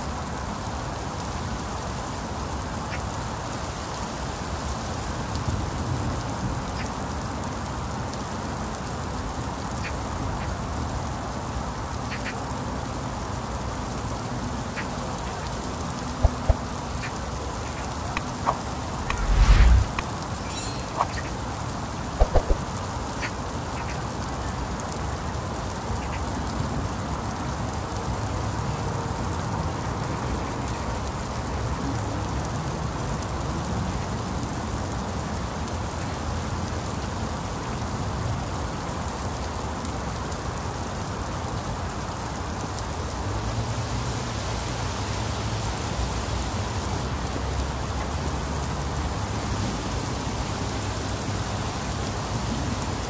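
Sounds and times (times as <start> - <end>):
heavy rain on roofs and leaves: 0.0 - 53.0.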